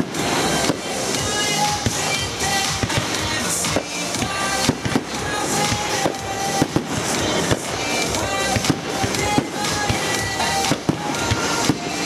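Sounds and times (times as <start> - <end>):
firework shells bursting: 0.0 - 12.0
music playing: 0.0 - 12.0.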